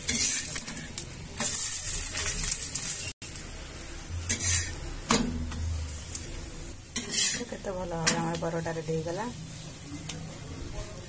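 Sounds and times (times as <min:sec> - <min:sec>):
flatbread sizzling in oil: 0:00.0 - 0:11.0
metal spatula on pan: 0:00.0 - 0:11.0.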